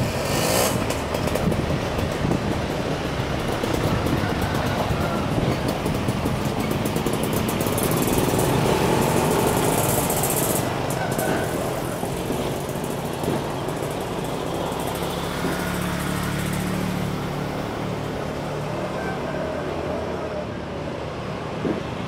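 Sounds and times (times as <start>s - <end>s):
cars driving past: 0.0s - 22.0s.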